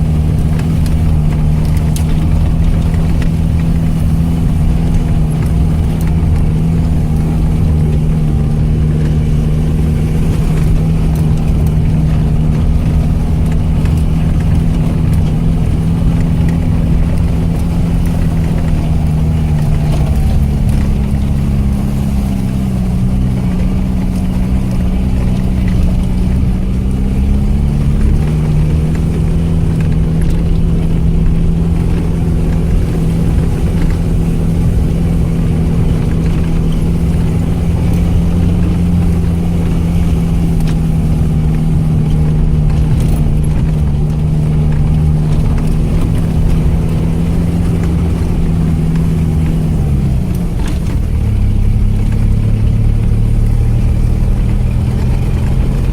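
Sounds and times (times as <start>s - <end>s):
off-road vehicle engine running: 0.0s - 55.9s.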